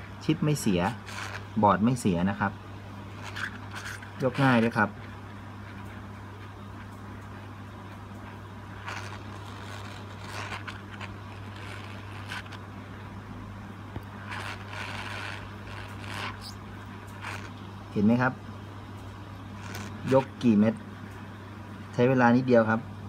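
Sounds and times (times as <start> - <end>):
hot air station humming and hissing: 0.0 - 23.0.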